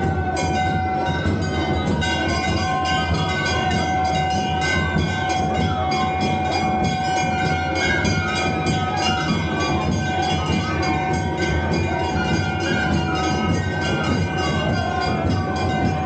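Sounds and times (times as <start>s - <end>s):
rapid dense drumming: 0.0s - 16.0s.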